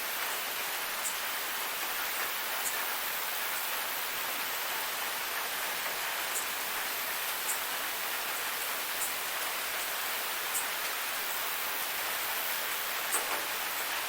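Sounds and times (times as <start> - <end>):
waterfall hissing: 0.0 - 14.0.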